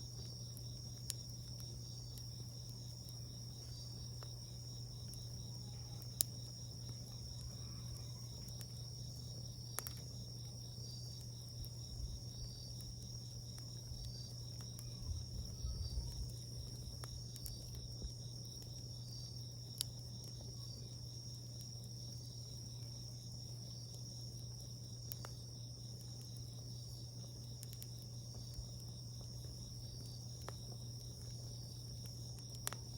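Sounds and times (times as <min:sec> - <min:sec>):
crickets trilling: 0:00.0 - 0:32.9
wood fire popping and crackling: 0:00.0 - 0:32.9.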